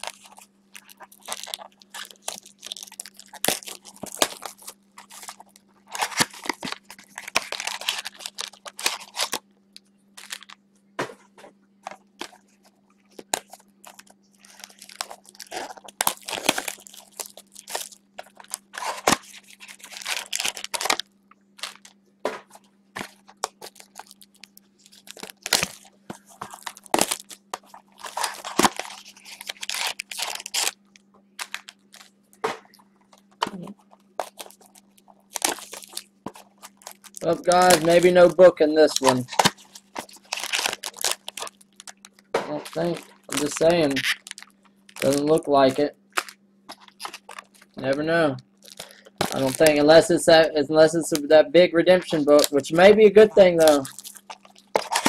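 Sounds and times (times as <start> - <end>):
cards and plastic rustling: 0.0 - 9.4, 10.2 - 11.2, 11.8 - 55.0
faint low hum: 0.0 - 55.0.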